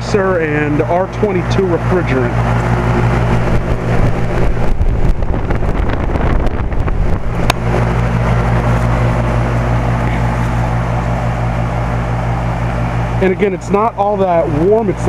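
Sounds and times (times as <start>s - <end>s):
wind buffeting microphone: 0.0s - 13.2s
air conditioner compressor humming: 0.0s - 15.0s
condenser fan whoosh: 0.0s - 15.0s.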